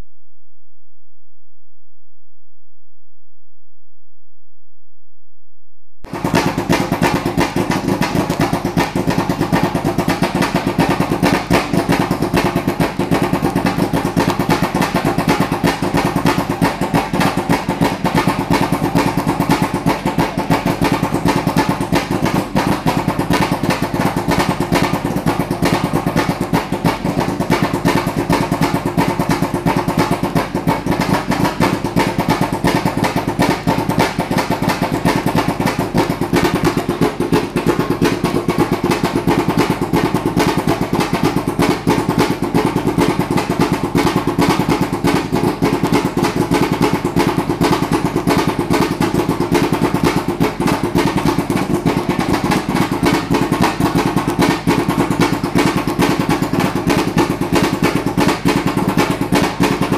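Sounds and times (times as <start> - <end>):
race car engine idling: 6.1 - 59.9.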